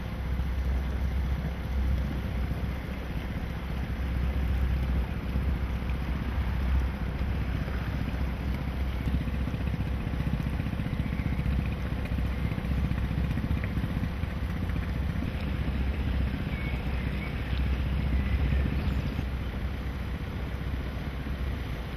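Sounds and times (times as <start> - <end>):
motorboat engine running: 0.0 - 21.9.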